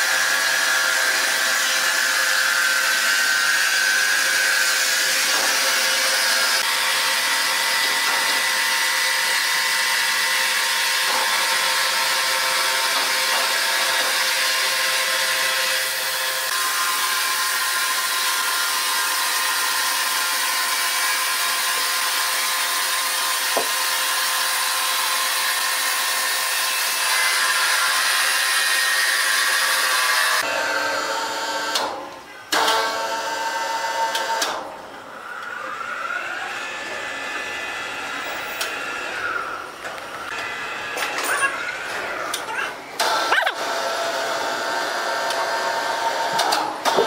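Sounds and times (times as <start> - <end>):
band saw cutting timber: 0.0 - 47.0.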